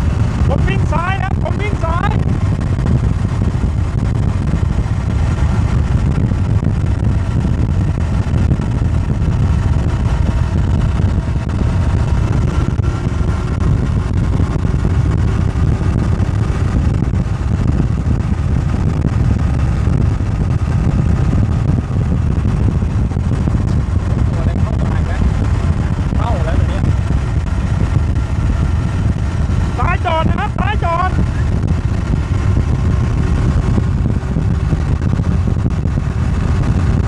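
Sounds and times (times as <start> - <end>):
wind and road noise rumble: 0.0 - 37.0.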